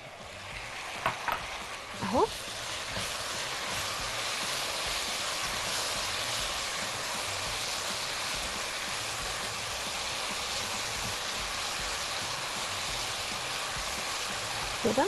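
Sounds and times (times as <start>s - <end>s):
rice sizzling in a hot pot: 0.0s - 15.0s.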